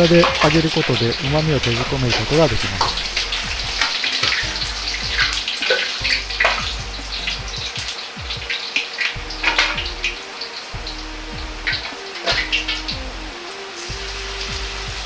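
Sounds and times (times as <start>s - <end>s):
oil dripping into wok: 0.0s - 15.0s.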